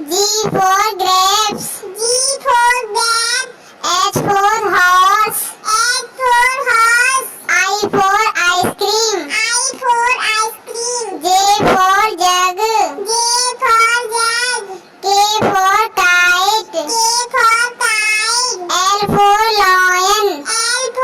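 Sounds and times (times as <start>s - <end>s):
child singing: 0.0s - 21.0s.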